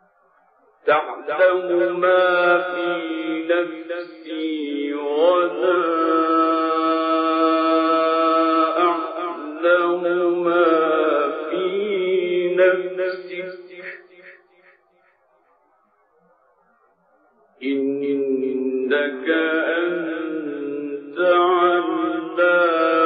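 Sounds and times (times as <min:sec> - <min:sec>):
man reciting melodically: 0:00.8 - 0:14.6, 0:17.6 - 0:23.0.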